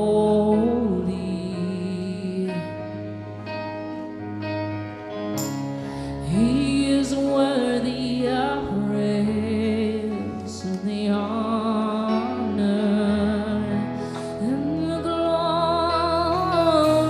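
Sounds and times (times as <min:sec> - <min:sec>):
person singing with vibrato: 0:00.0 - 0:04.0, 0:05.8 - 0:17.0
slow worship music chords: 0:00.0 - 0:17.0.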